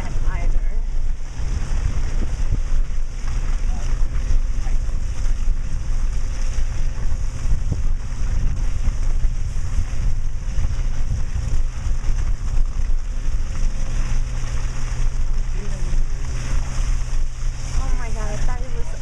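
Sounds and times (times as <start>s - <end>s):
car engine rumble: 0.0s - 19.0s
wind noise on microphone: 0.0s - 19.0s.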